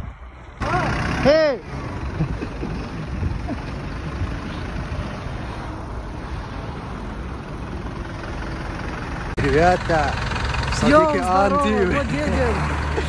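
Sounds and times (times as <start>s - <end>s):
bus engine rumbling: 0.0s - 13.0s
road traffic noise: 0.0s - 13.0s.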